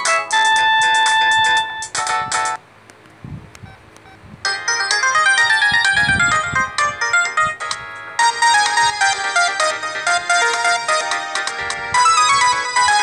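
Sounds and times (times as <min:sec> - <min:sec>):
electronic phone ringtone melody: 0:00.0 - 0:02.6, 0:03.6 - 0:13.0.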